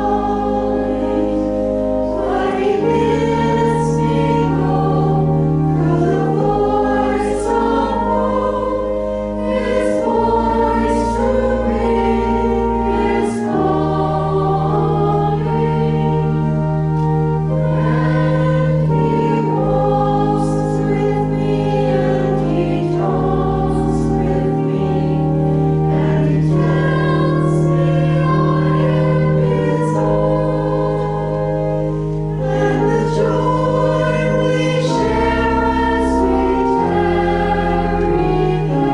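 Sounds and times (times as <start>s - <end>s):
choir singing a hymn: 0.0s - 38.9s
low held accompaniment notes: 0.0s - 38.9s.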